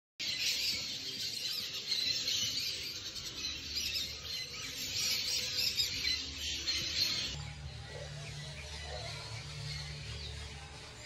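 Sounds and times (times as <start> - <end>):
birds chirping and calling: 0.2 - 11.0.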